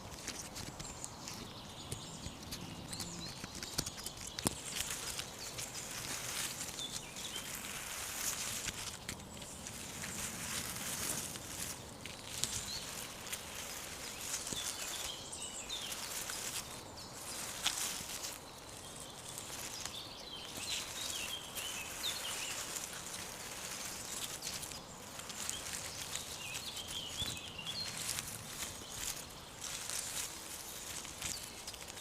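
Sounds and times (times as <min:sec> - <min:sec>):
rustling and light crackling: 0:00.0 - 0:32.0.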